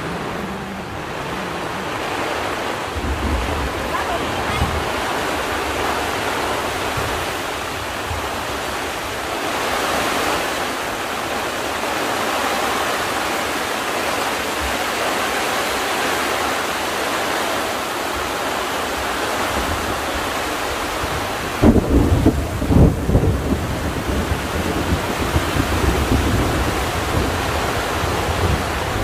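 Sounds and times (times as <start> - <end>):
heavy rain on tents: 0.0 - 29.0.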